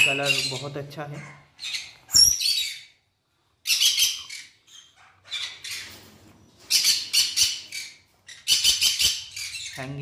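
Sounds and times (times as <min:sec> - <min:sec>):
parrots screeching: 0:00.0 - 0:10.0.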